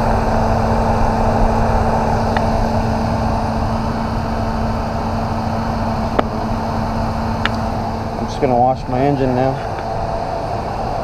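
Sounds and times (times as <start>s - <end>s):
cooling fan whirring: 0.0s - 11.0s
engine idling with low rumble: 0.0s - 11.0s.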